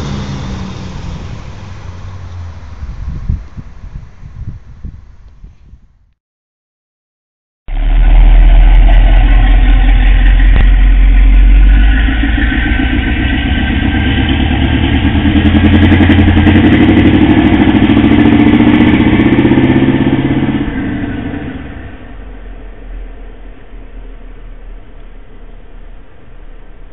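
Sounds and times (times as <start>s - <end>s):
loud car engine through exhaust: 0.0s - 4.5s, 7.7s - 26.9s.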